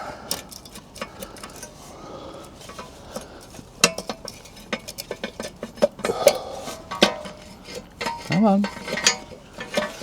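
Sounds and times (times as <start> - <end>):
metal tools clinking and rattling: 0.3 - 10.0.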